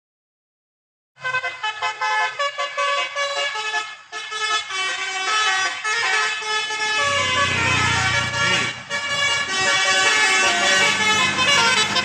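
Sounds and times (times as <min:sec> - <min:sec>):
musical air horn tune: 0:01.2 - 0:12.0.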